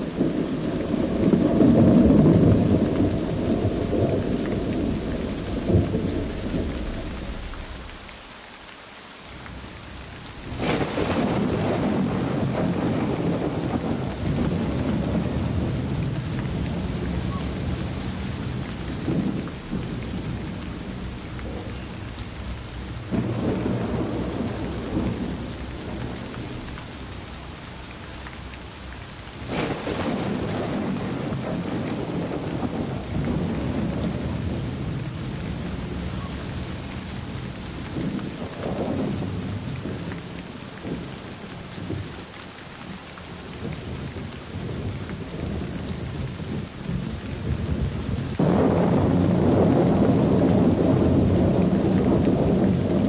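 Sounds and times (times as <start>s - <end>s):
thunder rumbling: 0.0s - 8.4s, 9.4s - 53.0s
rain falling: 0.0s - 53.0s.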